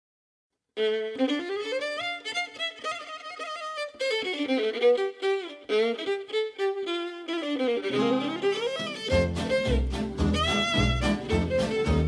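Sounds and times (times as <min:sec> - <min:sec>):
gypsy swing violin melody: 0:00.8 - 0:12.0.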